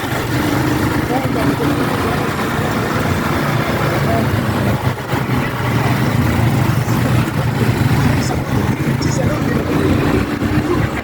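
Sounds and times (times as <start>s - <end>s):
motorcycle engine running: 0.0s - 11.0s
road and traffic noise: 0.0s - 11.0s.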